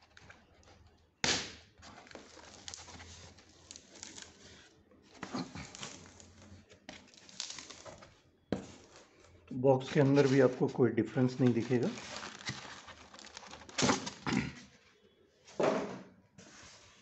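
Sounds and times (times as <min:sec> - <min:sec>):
cardboard scraping and rustling: 0:01.7 - 0:14.9, 0:16.4 - 0:17.0.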